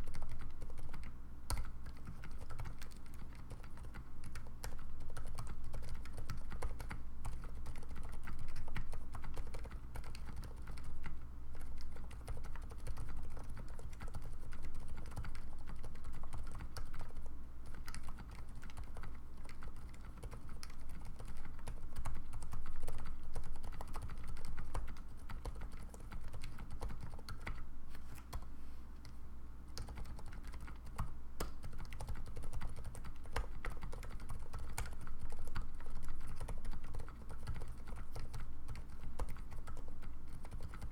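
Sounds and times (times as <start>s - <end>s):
typing on mechanical keyboard: 0.0s - 27.6s, 29.7s - 40.9s.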